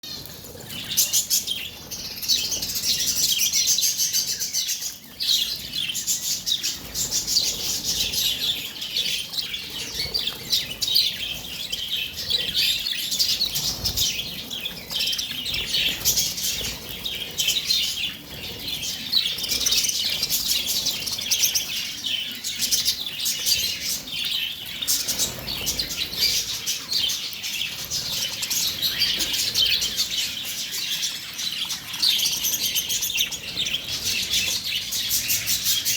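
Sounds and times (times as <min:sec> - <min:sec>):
birds chirping and chattering: 0:00.0 - 0:35.9.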